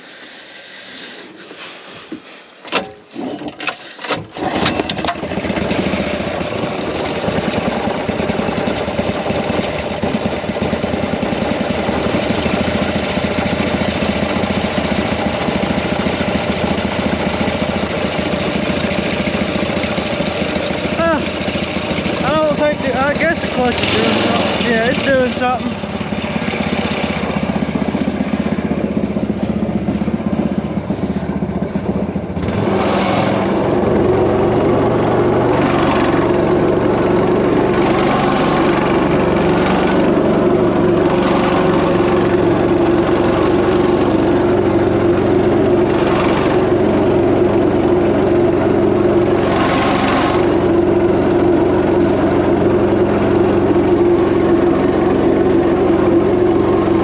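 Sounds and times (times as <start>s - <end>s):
small boat engine running: 3.7s - 57.0s.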